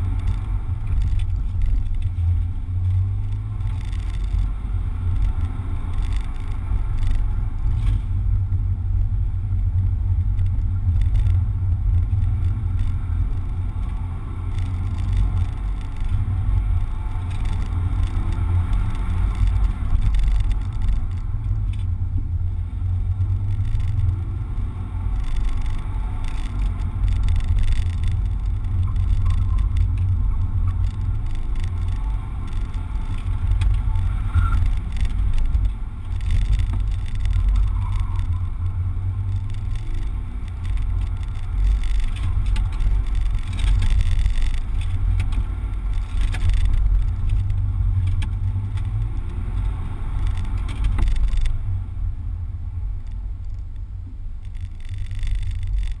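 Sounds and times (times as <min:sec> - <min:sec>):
car engine revving: 0:00.0 - 0:53.4
road and wind noise: 0:00.0 - 0:56.0.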